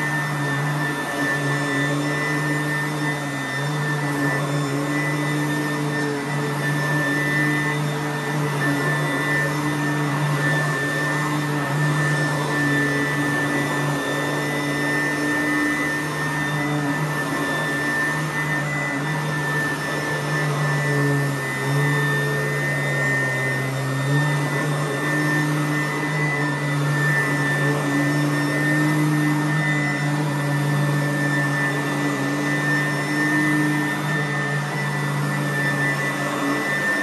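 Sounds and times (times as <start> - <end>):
upright vacuum cleaner running: 0.0 - 37.0.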